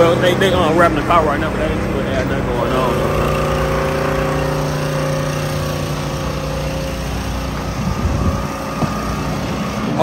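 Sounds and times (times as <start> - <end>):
engine running: 0.0 - 10.0
rough street rumble: 0.0 - 10.0.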